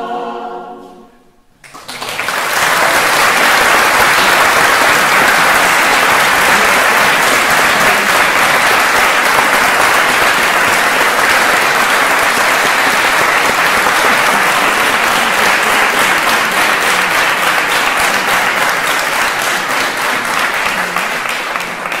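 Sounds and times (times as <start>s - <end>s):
audience applauding: 1.6s - 22.0s.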